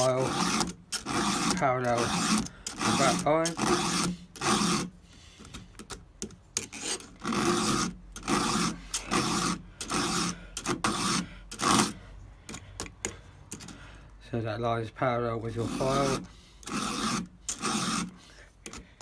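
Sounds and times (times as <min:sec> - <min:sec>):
file rasping on chainsaw chain: 0:00.0 - 0:05.6, 0:06.6 - 0:13.8, 0:15.4 - 0:18.9.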